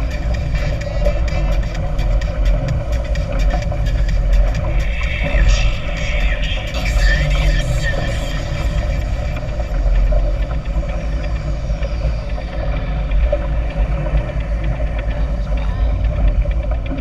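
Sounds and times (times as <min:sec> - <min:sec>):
rushing air and water: 0:00.0 - 0:17.0
speedboat engine rumble: 0:00.0 - 0:17.0.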